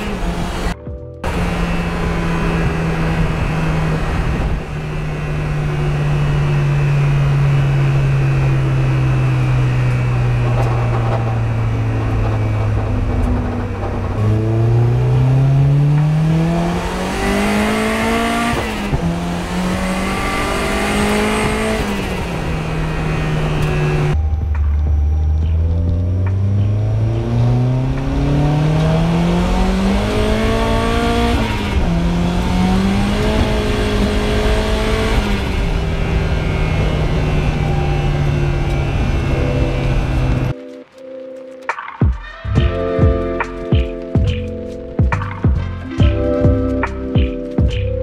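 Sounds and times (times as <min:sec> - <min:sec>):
car engine revving: 0:00.0 - 0:40.6.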